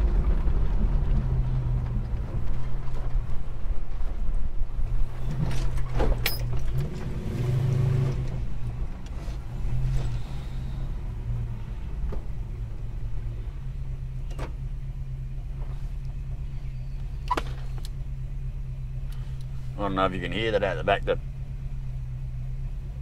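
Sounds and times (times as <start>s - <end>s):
car engine drone from inside: 0.0s - 23.0s.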